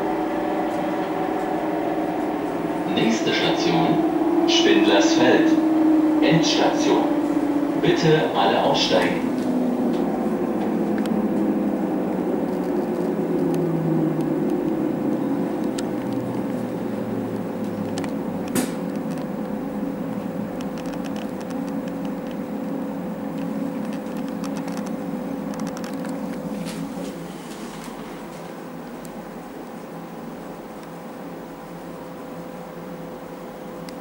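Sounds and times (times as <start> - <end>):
electric train whine: 0.0 - 34.0
electrical hum of standing train: 0.0 - 34.0.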